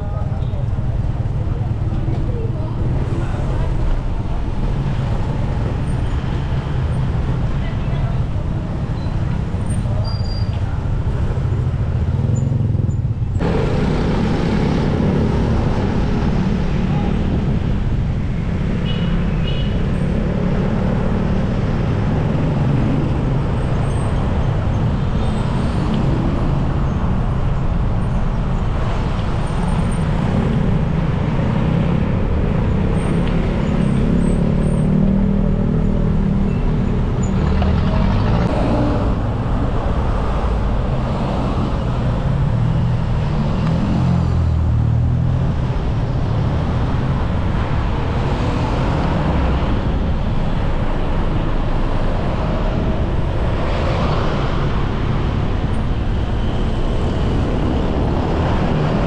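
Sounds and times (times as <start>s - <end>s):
traffic noise: 0.0s - 59.0s.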